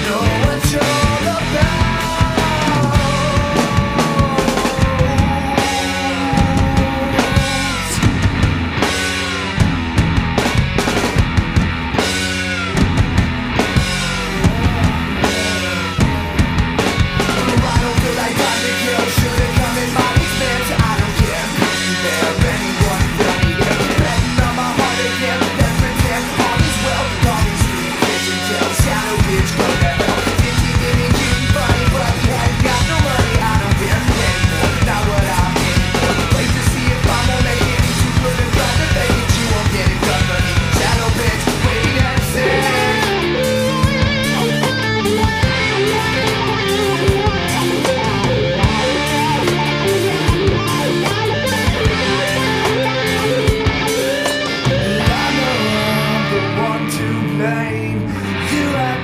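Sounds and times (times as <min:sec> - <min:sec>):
punk rock band playing: 0:00.0 - 0:59.0.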